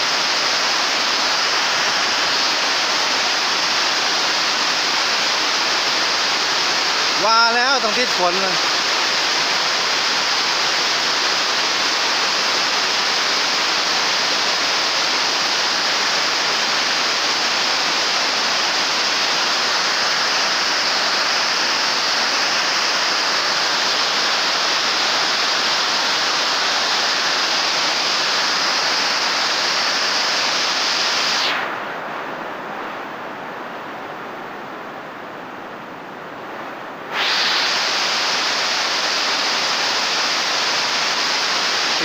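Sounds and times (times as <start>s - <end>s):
heavy rain on a roof: 0.0s - 42.0s.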